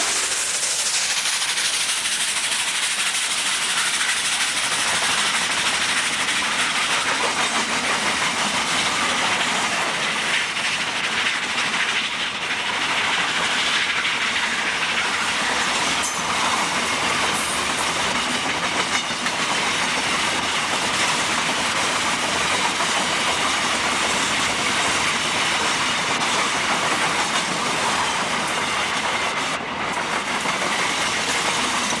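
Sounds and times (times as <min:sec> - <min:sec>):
steam train rolling past: 0:00.0 - 0:32.0.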